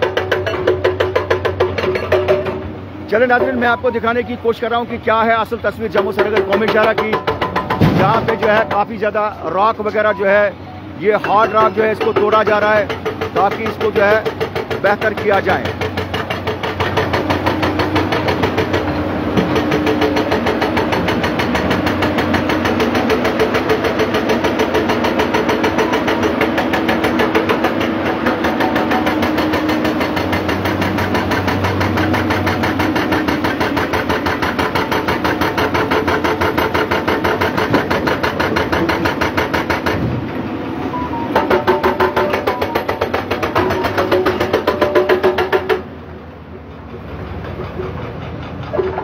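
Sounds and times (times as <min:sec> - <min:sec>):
hydraulic rock breaker hammering: 0:00.0 - 0:10.1, 0:11.0 - 0:40.2, 0:41.3 - 0:46.0
diesel engines under load: 0:00.0 - 0:49.0.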